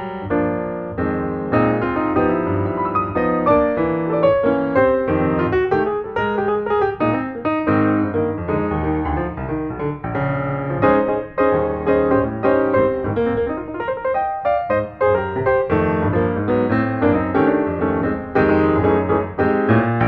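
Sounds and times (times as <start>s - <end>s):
piano playing: 0.0s - 20.0s.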